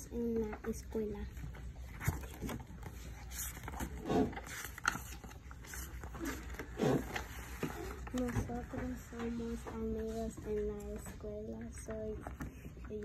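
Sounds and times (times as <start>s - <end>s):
book pages turning: 0.4s - 13.0s.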